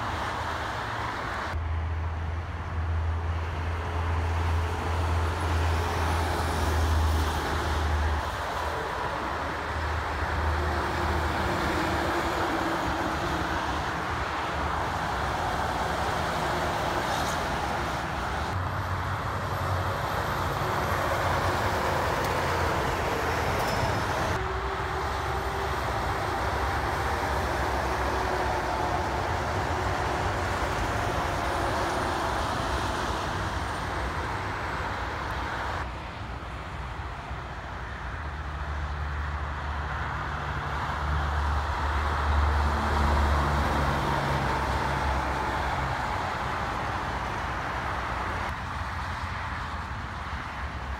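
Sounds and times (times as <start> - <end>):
diesel truck engines droning: 0.0 - 50.9
highway traffic noise: 0.0 - 50.9.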